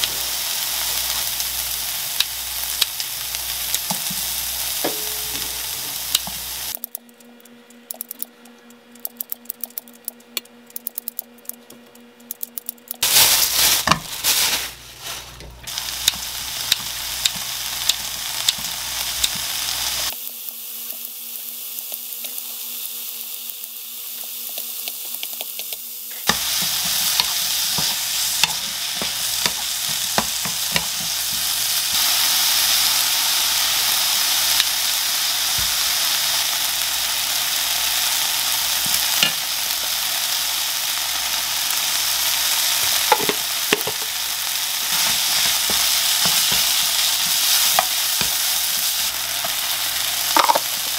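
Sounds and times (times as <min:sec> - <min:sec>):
food sizzling in frying pan: 0:00.0 - 0:06.8, 0:13.0 - 0:50.9.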